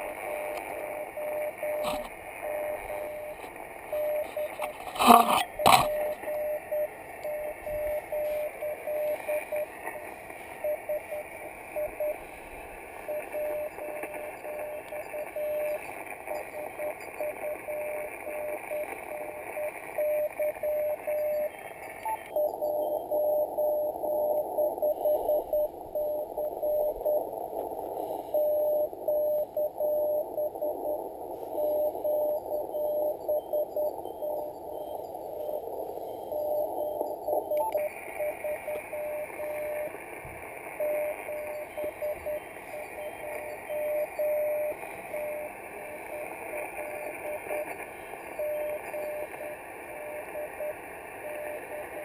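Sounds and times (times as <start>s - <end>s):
morse code tone: 0.0s - 12.2s, 13.0s - 27.2s, 28.4s - 40.0s, 40.8s - 47.8s, 48.4s - 52.0s
radio band hiss: 0.0s - 52.0s.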